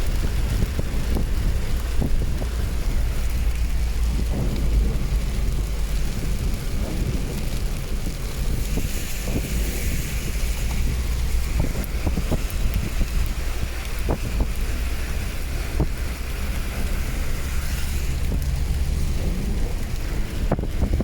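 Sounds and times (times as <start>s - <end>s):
hiss of rain or road noise: 0.0s - 21.0s
wind buffeting microphone: 0.0s - 21.0s.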